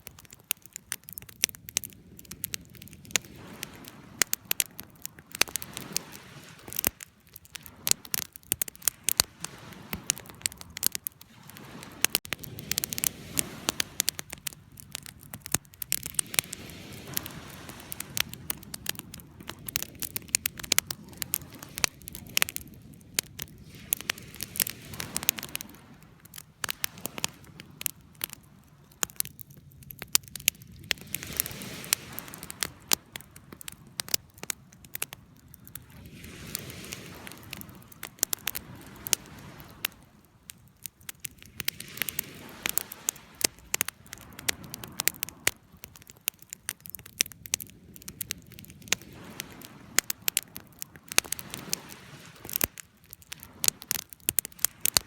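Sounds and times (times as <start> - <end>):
campfire crackling: 0.0 - 55.0
rushing of flame: 0.2 - 55.0.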